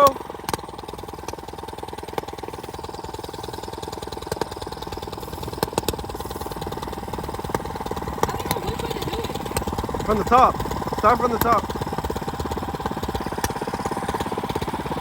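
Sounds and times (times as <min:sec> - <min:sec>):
minibike engine idling: 0:00.0 - 0:15.0.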